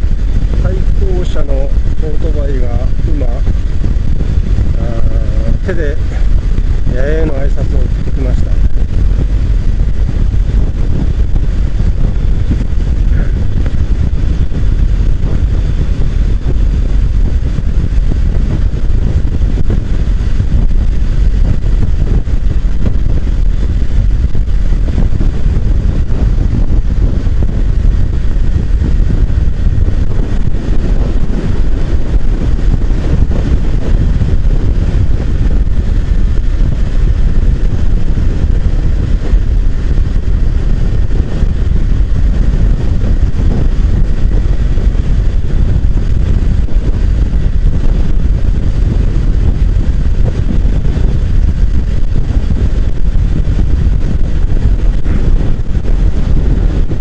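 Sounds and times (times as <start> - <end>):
motorcycle engine: 0.0 - 56.8
wind buffeting microphone: 0.0 - 57.0.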